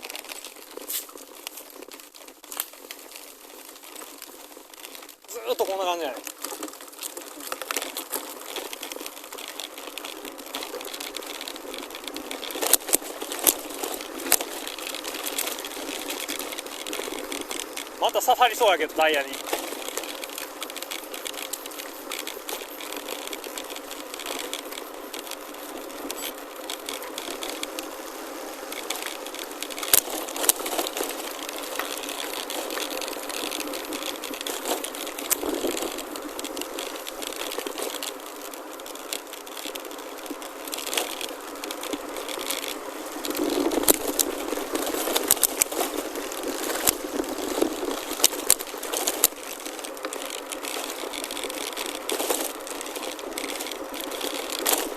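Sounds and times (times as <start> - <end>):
bike rattling over bumps: 0.0 - 54.9
bike tyres crunching on gravel: 0.0 - 54.9.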